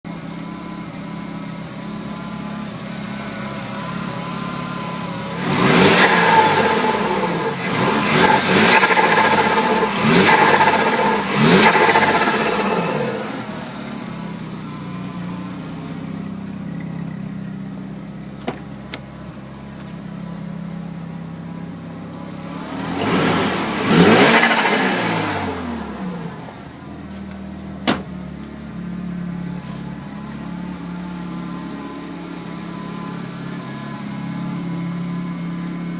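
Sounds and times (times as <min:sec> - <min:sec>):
rotary engine idling and revving: 0:00.1 - 0:35.9.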